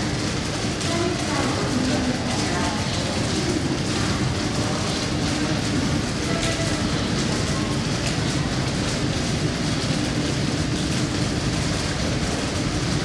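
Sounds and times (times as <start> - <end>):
steady train hum: 0.0 - 13.0
train wheels rumbling on rails: 0.0 - 13.0.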